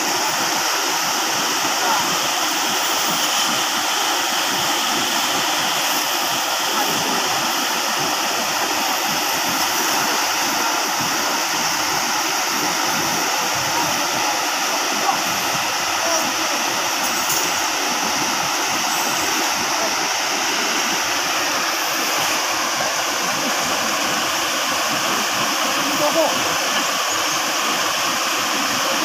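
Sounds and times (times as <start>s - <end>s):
river rushing over boulders: 0.0s - 29.0s.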